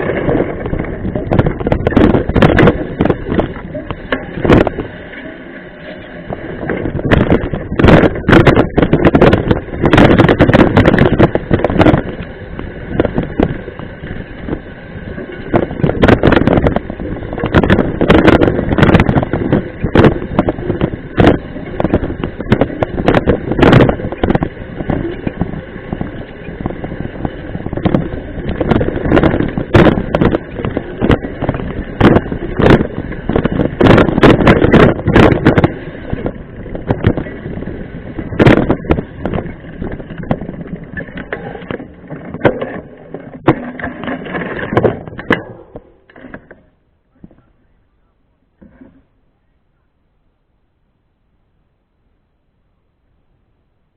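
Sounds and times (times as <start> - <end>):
bike knocks and rattles: 0.0 - 47.8, 48.6 - 49.1
wind and tyre rumble: 0.0 - 53.9.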